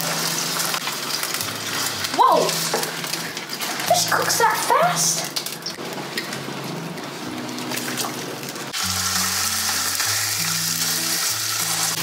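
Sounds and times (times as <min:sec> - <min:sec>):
fish sizzling in hot oil: 0:00.0 - 0:06.4, 0:07.0 - 0:12.0.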